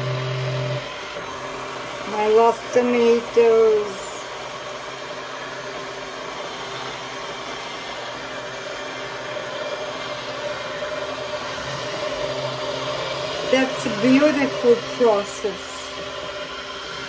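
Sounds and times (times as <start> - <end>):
immersion blender whirring: 0.0 - 17.0.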